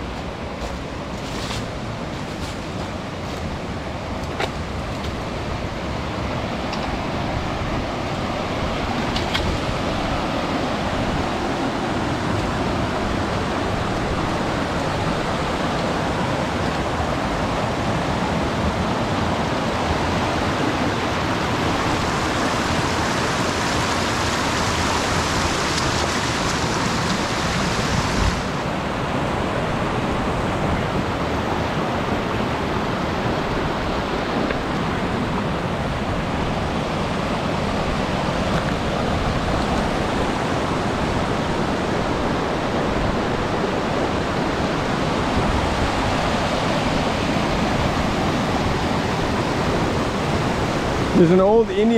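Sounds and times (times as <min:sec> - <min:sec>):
river water flowing over rocks: 0:00.0 - 0:51.9.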